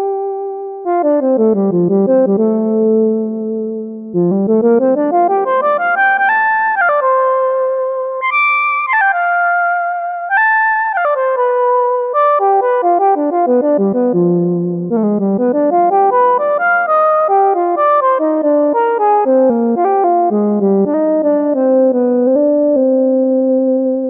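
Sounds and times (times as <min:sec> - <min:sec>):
synth lead melody: 0:00.0 - 0:24.0.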